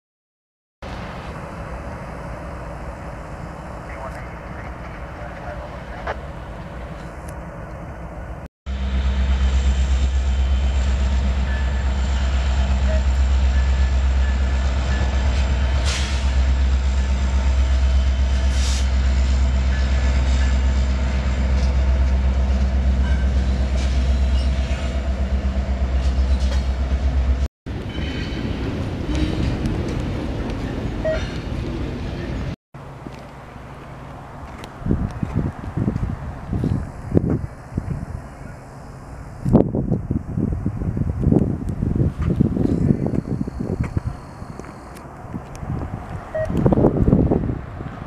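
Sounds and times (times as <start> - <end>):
diesel locomotive drone: 0.8 - 48.0.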